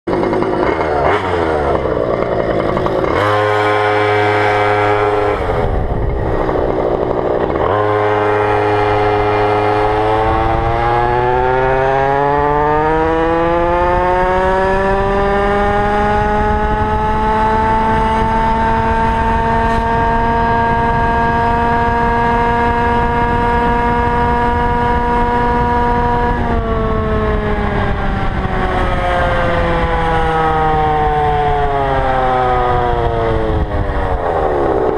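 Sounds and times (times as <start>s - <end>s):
two-stroke scooter engine: 0.1s - 34.9s.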